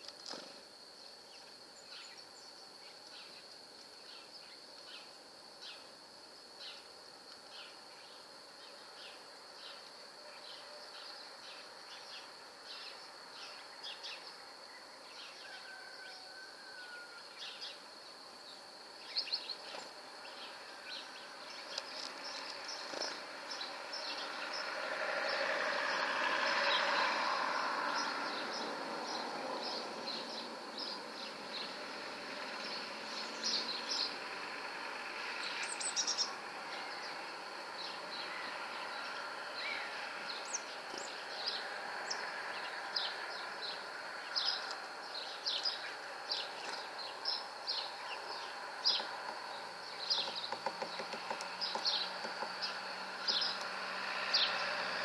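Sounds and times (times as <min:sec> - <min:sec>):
small birds chirping: 0:00.0 - 0:15.9, 0:16.8 - 0:27.0, 0:27.8 - 0:54.8.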